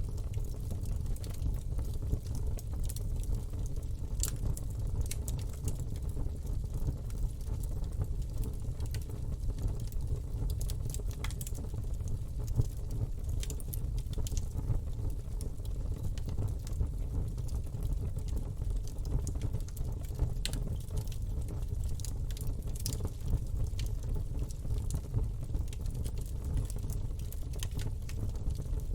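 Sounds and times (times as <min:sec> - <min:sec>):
campfire flames rumbling: 0:00.0 - 0:28.9
wood crackling and popping: 0:00.0 - 0:28.9.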